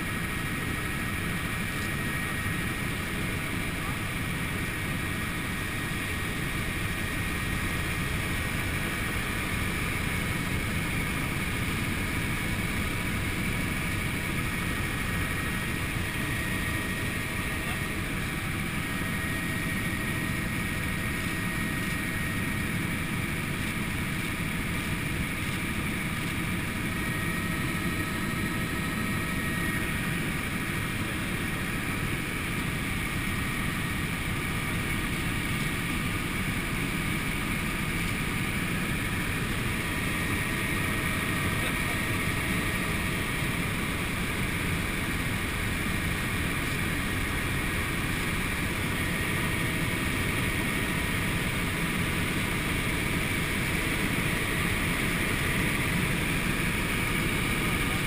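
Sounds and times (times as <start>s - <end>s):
helicopter engine and rotors droning: 0.0s - 58.0s.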